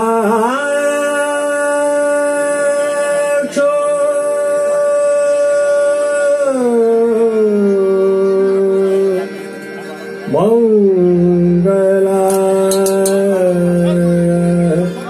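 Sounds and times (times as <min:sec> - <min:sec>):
man singing long held notes: 0:00.0 - 0:09.5, 0:10.2 - 0:15.0
harmonium: 0:00.0 - 0:15.0.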